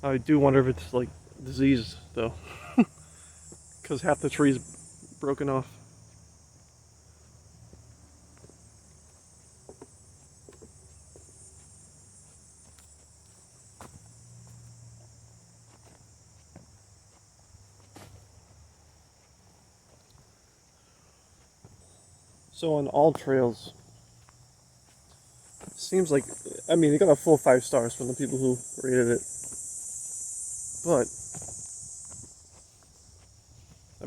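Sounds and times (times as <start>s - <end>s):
distant road traffic: 0.0s - 34.0s
high-pitched insect chorus: 0.0s - 34.0s
footsteps on forest path: 2.4s - 34.0s.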